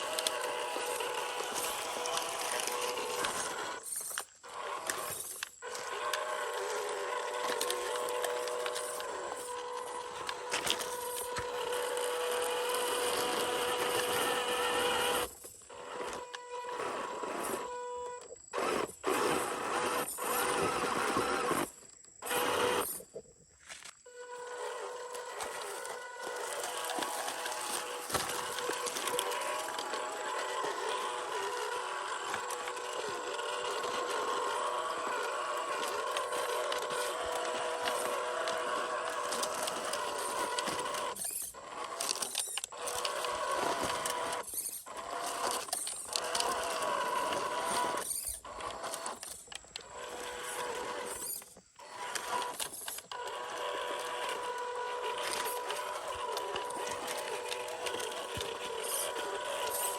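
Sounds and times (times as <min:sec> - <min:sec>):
toy car electric motor whining: 0:00.0 - 0:59.9.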